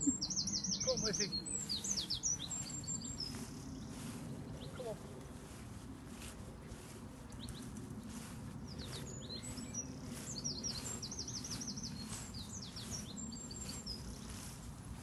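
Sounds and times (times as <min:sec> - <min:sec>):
small bird singing: 0:00.0 - 0:05.6, 0:06.8 - 0:14.7.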